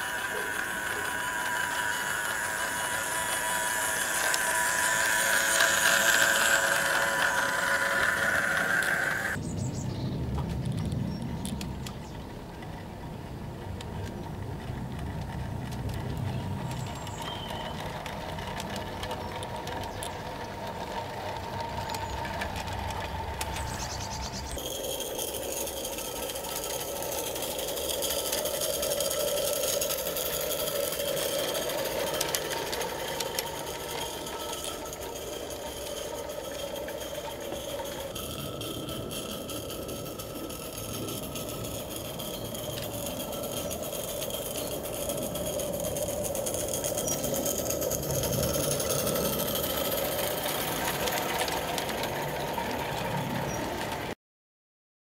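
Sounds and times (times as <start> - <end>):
model train running on track: 0.0 - 54.2.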